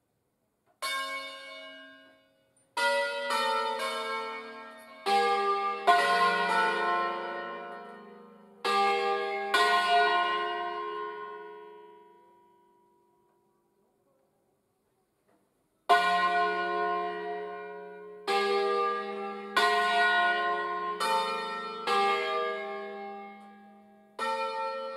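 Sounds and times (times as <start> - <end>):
church bells ringing: 0.8 - 13.0, 15.9 - 24.9.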